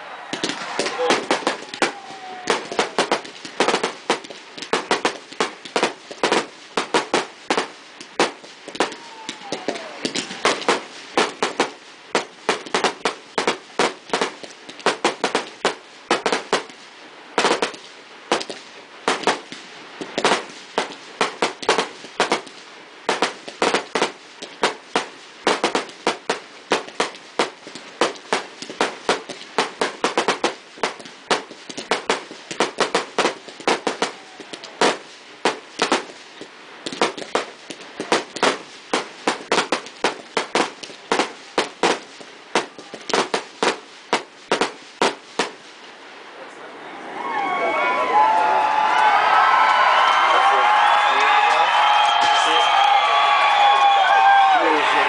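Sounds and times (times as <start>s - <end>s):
fireworks bursting: 0.0s - 46.3s, 48.1s - 55.0s.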